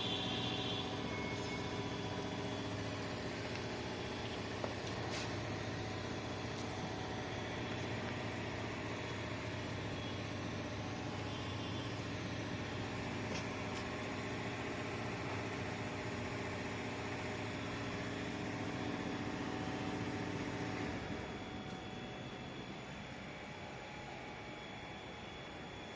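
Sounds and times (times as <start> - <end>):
steady machine hum: 0.0 - 25.9.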